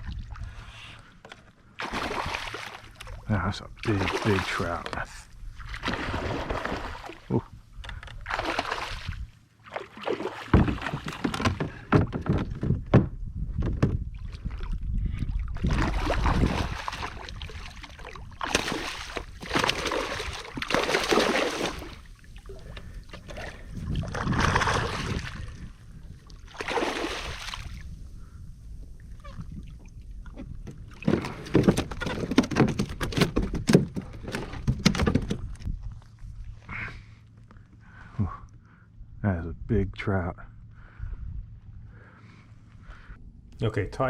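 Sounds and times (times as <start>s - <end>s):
water splashing and sloshing: 0.0s - 37.8s.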